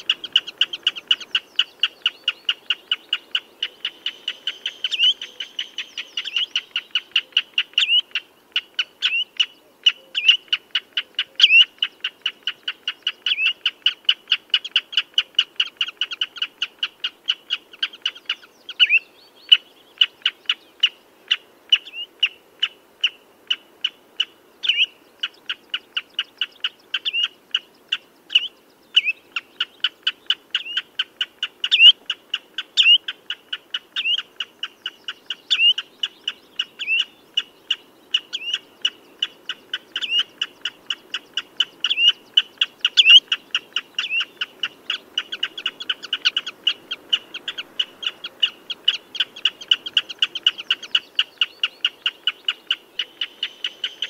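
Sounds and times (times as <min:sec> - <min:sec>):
bird piping calls: 0:00.0 - 0:54.0.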